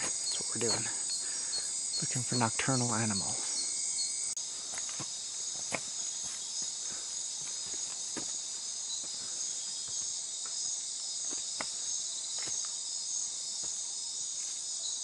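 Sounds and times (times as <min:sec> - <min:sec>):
night insects chirping: 0:00.0 - 0:15.0.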